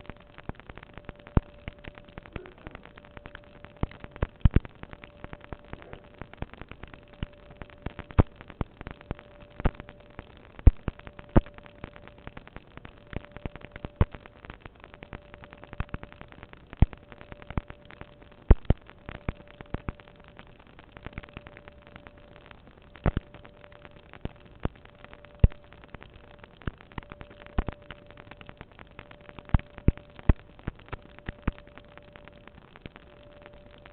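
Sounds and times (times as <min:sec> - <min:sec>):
faint steady tone and hiss: 0:00.0 - 0:33.9
sharp pops and clicks: 0:00.0 - 0:33.9.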